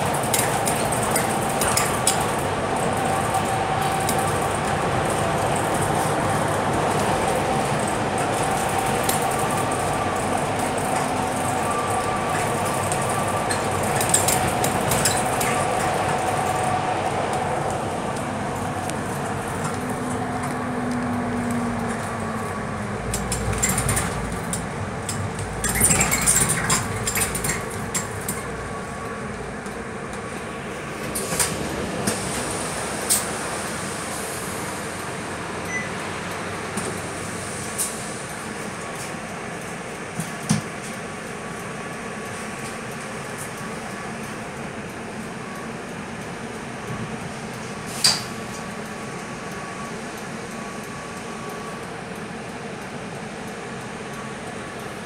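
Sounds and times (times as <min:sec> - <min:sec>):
bus engine and road noise: 0:00.0 - 0:55.0
steady whine: 0:00.1 - 0:55.0.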